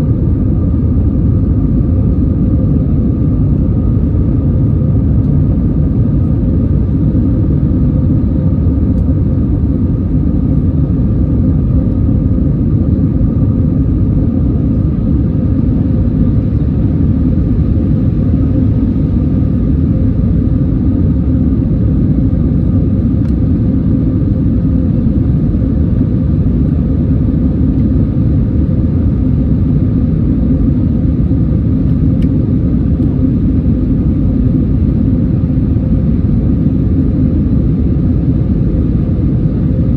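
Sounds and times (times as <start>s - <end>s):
faint steady engine tones: 0.0s - 39.9s
jet engine rumble: 0.0s - 39.9s.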